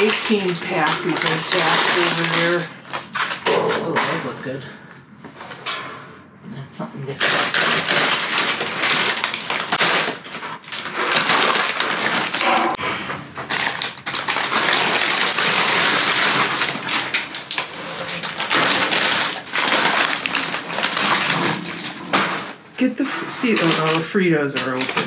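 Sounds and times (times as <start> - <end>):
plastic packaging rustling and crinkling: 0.0 - 5.9, 7.1 - 25.0.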